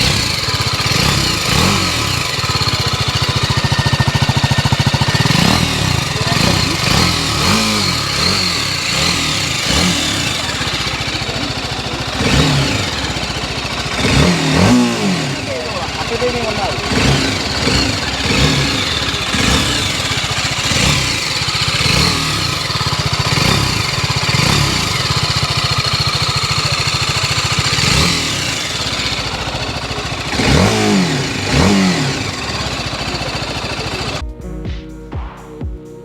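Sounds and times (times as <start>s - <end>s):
motorcycle engine idling and revving: 0.0s - 34.4s.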